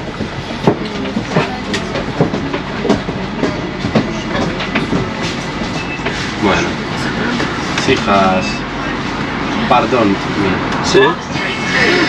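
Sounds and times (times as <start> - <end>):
bus running and road noise: 0.0 - 12.0.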